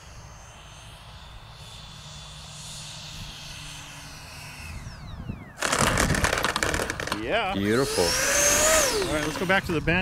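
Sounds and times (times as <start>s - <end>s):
electric ducted fan whine: 0.0s - 10.0s.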